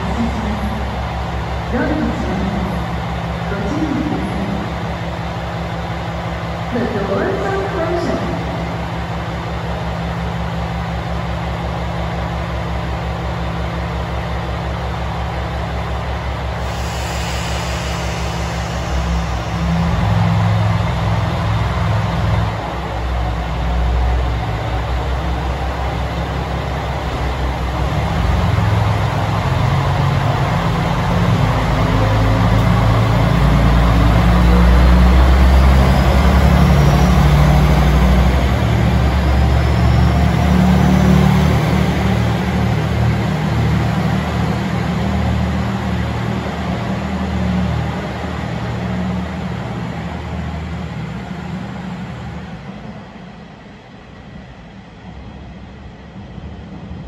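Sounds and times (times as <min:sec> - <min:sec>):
diesel railcar engine idling: 0:00.0 - 0:57.0
electric train whine: 0:00.0 - 0:57.0.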